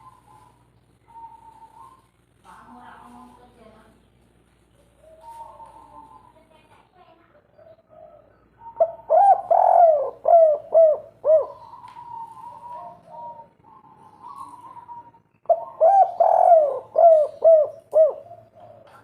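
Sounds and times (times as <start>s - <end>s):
dove cooing: 0.0s - 2.1s, 4.9s - 6.7s, 7.4s - 19.0s.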